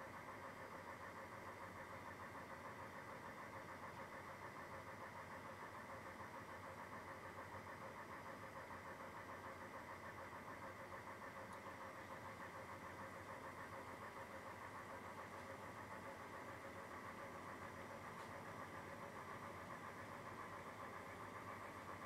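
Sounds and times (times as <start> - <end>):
faint pulsing machine hum: 0.0 - 22.0.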